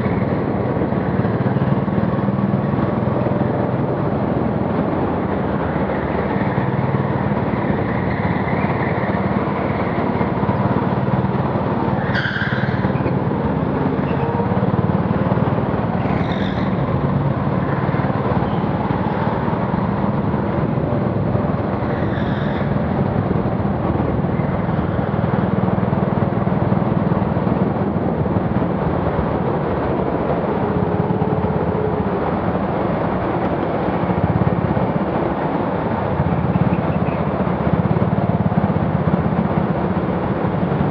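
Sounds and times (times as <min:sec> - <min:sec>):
go-kart engine running: 0:00.0 - 0:40.9.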